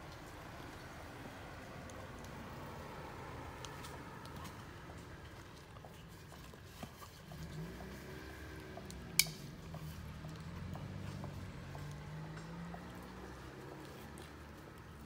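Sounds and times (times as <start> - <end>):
cats chewing and lapping: 0.0 - 15.0.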